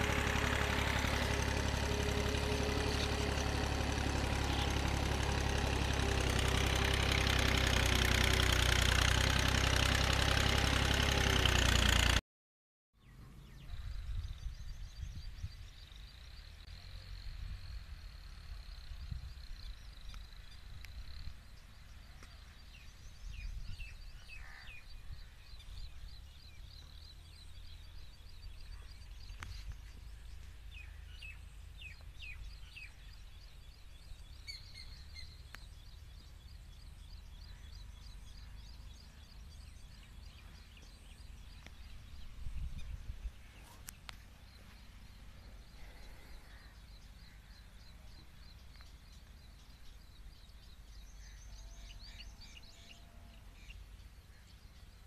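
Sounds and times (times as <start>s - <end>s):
birds chirping: 0.0s - 12.2s, 13.0s - 55.0s.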